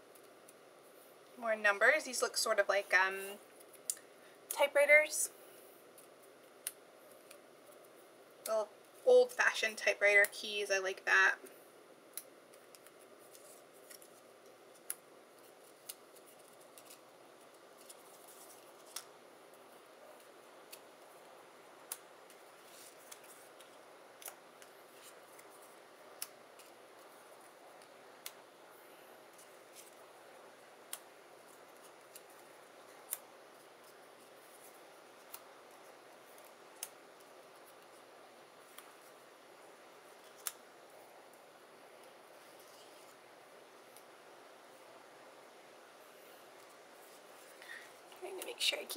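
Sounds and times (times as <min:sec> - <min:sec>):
faint room hiss: 0:00.0 - 0:48.9.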